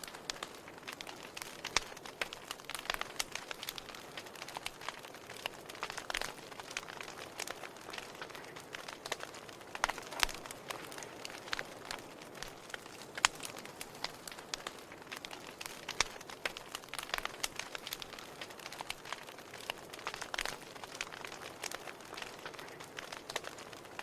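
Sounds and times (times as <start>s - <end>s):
burning logs snapping: 0.0s - 24.0s
wood fire crackling and hissing: 0.0s - 24.0s.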